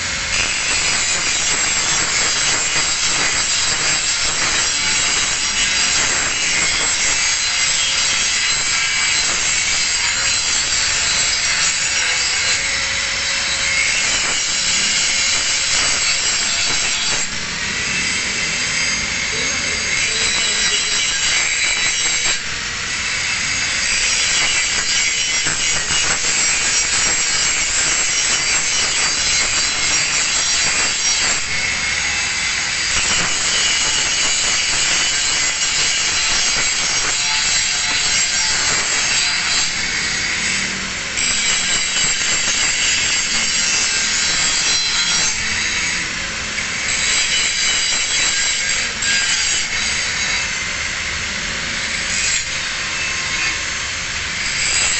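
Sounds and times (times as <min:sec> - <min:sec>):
angle grinder grinding metal: 0:00.0 - 0:54.9.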